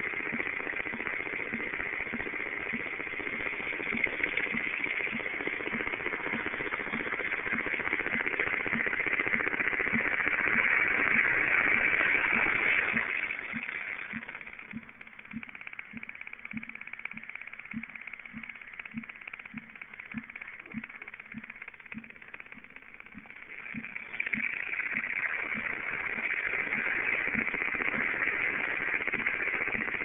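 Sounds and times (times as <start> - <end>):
radio static hiss with low pulsing: 0.0 - 30.0.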